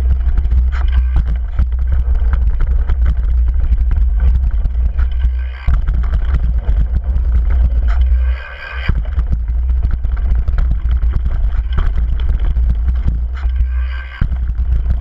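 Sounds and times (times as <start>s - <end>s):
bike rattling: 0.0s - 15.0s
tyres crunching on loose stones: 0.0s - 15.0s.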